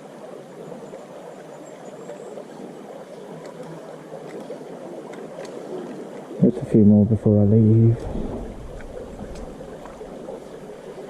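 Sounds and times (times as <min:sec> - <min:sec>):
stream babbling over stones: 0:00.0 - 0:11.0.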